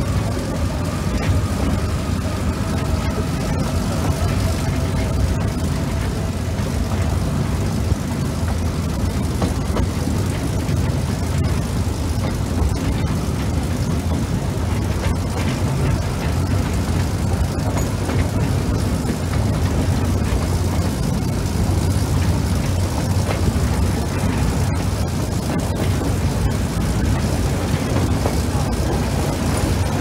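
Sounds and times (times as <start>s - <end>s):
train wheels rumbling on rail: 0.0s - 30.0s
clicks over rail joints: 2.7s - 30.0s.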